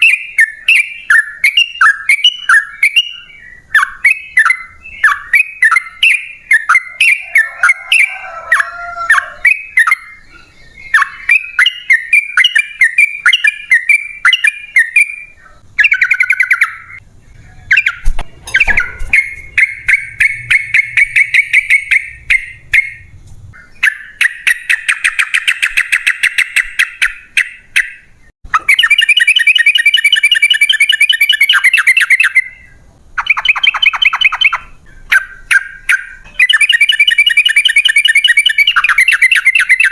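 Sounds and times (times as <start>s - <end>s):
rapid chattering bird trills: 0.0s - 32.6s, 33.2s - 39.9s.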